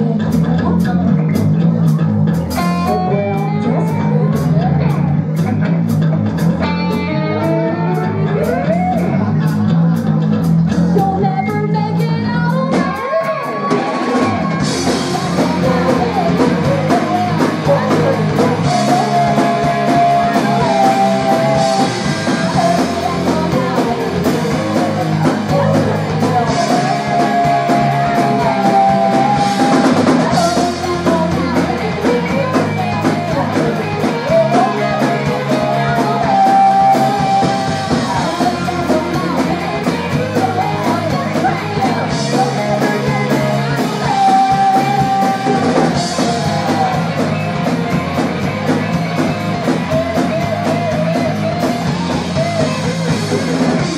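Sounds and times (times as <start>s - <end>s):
drum kit: 0.0s - 53.9s
electric bass: 0.0s - 53.9s
electric guitars: 0.0s - 53.9s
person singing: 0.0s - 53.9s.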